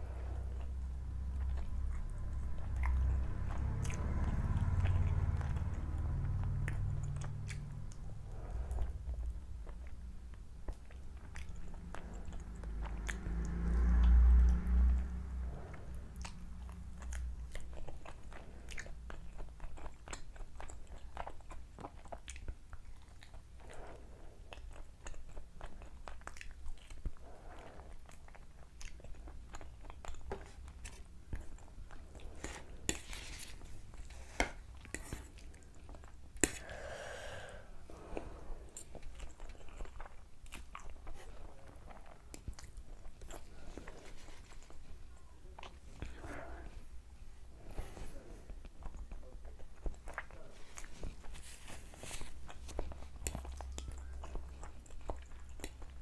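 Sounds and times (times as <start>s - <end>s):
chewing and crunching: 0.0s - 36.9s, 37.9s - 56.0s.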